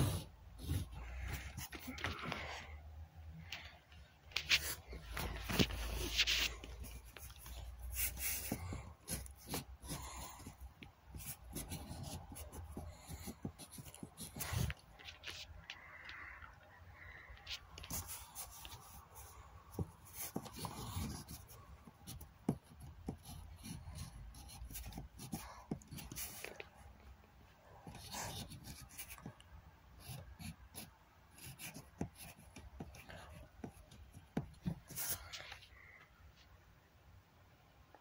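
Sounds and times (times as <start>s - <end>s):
paper scratching and rubbing: 0.0s - 2.4s, 4.4s - 16.0s, 17.5s - 26.7s, 27.9s - 29.3s, 30.0s - 35.7s.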